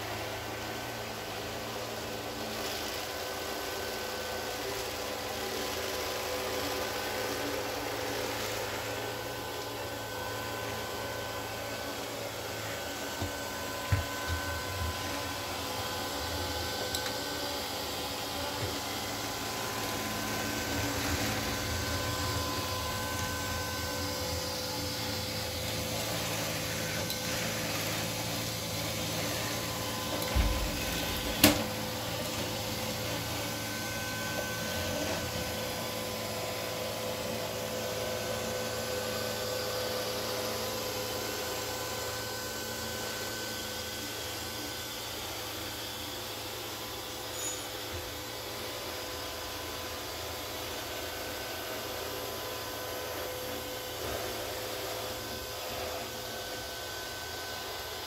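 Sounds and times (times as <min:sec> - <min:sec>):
robot vacuum humming and whining: 0:00.0 - 0:58.0.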